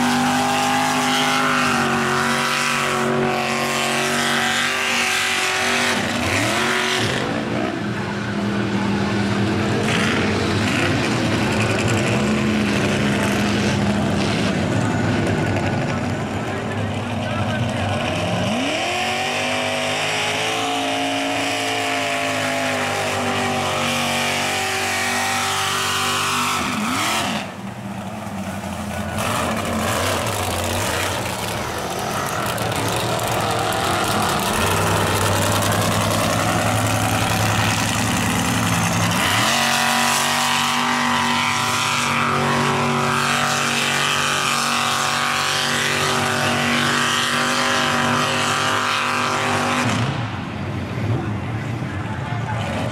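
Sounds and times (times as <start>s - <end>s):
truck engines revving: 0.0s - 52.9s.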